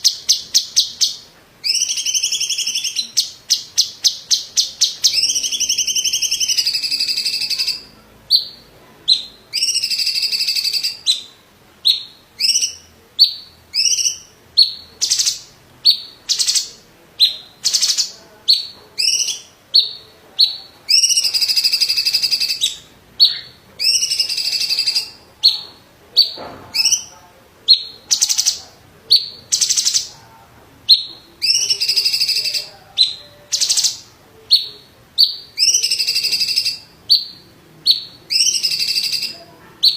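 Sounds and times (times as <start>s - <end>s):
bird singing trilled phrases: 0.0s - 27.1s, 27.7s - 30.2s, 30.9s - 39.9s.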